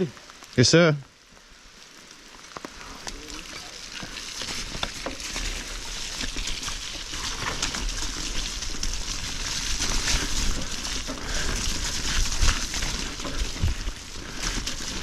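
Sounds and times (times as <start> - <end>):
bike tyres hissing and splashing: 0.0 - 15.0
rain: 0.0 - 15.0.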